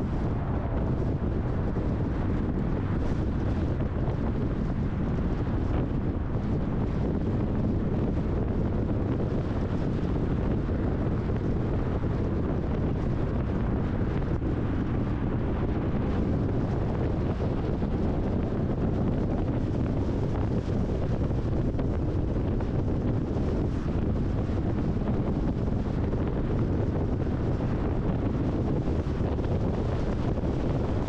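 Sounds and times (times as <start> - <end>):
car tyre and road rumble: 0.0 - 31.0
wind buffeting microphone: 0.0 - 31.0.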